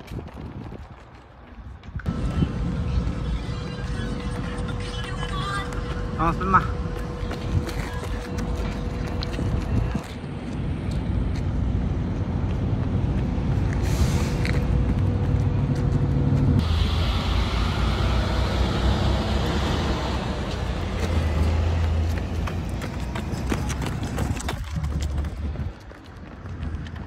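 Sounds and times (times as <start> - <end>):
footsteps on pavement: 0.0 - 16.6, 19.4 - 27.0
heavy vehicle engines rumbling: 1.3 - 27.0.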